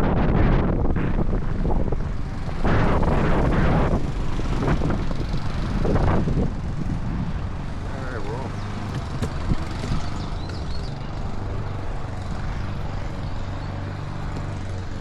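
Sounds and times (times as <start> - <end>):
low road rumble: 0.0 - 15.0
wind buffeting microphone: 0.0 - 15.0.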